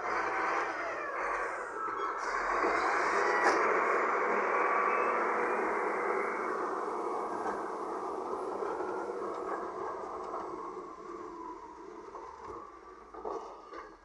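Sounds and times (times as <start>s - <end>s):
wheel loader rumbling: 0.0s - 14.0s.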